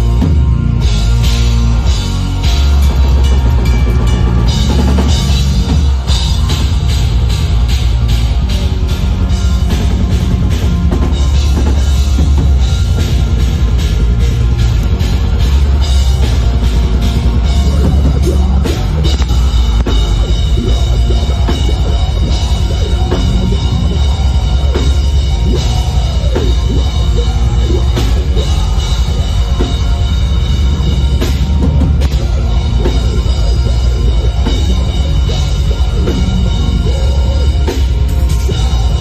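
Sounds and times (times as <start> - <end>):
bass guitar: 0.0 - 39.0
distorted guitars: 0.0 - 39.0
pounding drum kit: 0.0 - 39.0.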